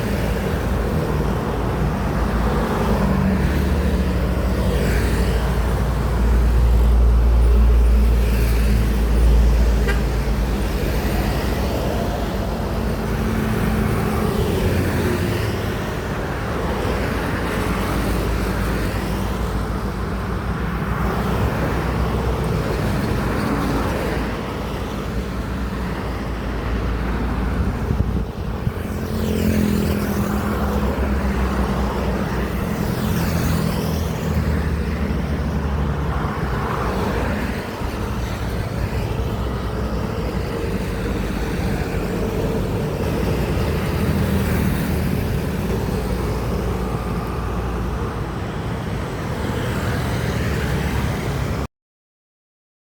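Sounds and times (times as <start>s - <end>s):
diesel truck engines droning: 0.0s - 51.6s
vehicles passing: 0.0s - 51.7s.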